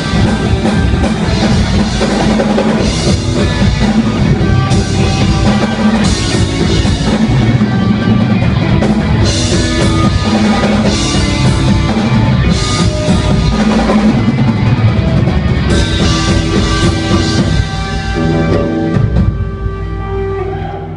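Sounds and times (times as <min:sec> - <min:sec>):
bass drum: 0:00.0 - 0:19.8
guitar: 0:00.0 - 0:20.9
rock band playing: 0:00.0 - 0:20.9.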